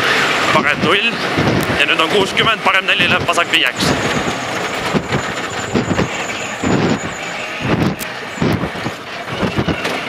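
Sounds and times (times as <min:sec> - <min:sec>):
rushing roar of engine and road: 0:00.0 - 0:10.0.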